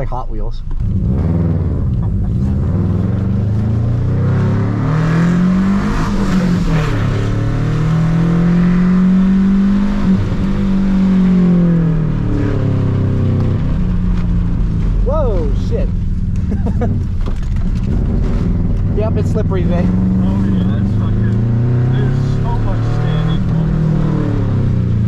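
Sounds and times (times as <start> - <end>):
car engine accelerating: 0.6 - 25.0.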